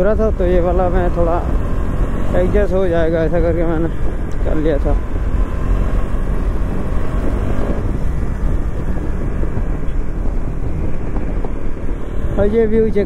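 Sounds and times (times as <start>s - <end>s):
motorcycle engine: 0.0s - 13.0s
road noise: 0.0s - 13.0s
wind rushing on microphone: 0.0s - 13.0s.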